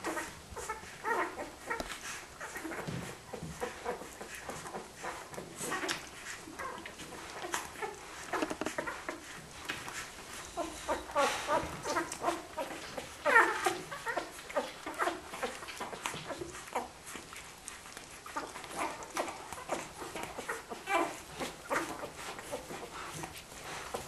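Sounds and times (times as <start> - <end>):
puppies squeaking and whimpering: 0.0 - 24.0.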